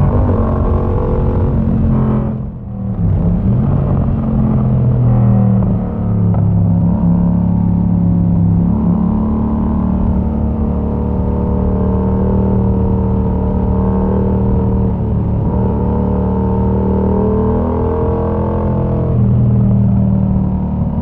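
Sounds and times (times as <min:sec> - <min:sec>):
motorcycle engine while riding: 0:00.0 - 0:21.0.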